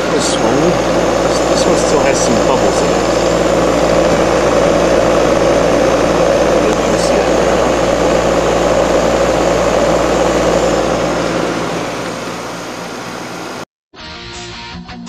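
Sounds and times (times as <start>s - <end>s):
heat pump hum and fan whoosh: 0.0s - 13.6s.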